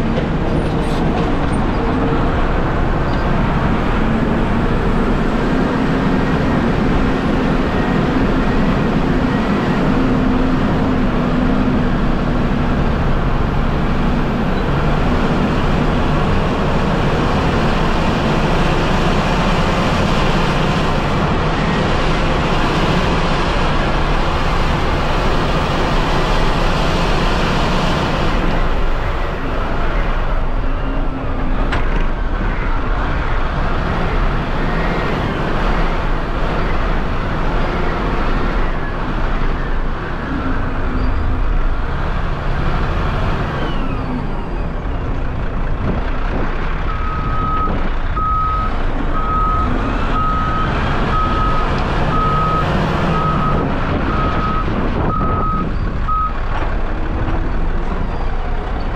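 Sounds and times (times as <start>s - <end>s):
truck diesel engine running: 0.0s - 58.9s.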